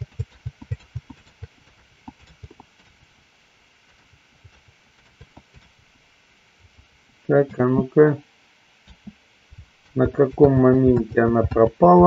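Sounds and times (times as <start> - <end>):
quiet hiss: 0.0 - 12.0.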